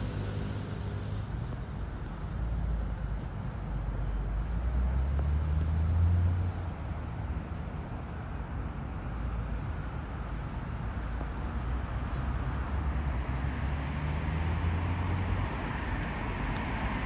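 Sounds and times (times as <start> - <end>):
city hum: 0.0 - 17.0
passing vehicle engine rumble: 0.0 - 17.0.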